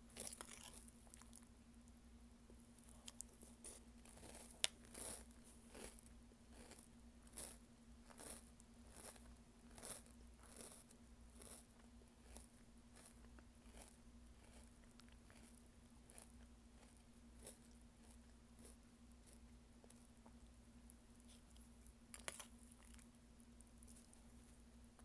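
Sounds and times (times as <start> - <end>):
chewing soggy cereal: 0.1 - 1.5, 2.8 - 24.8.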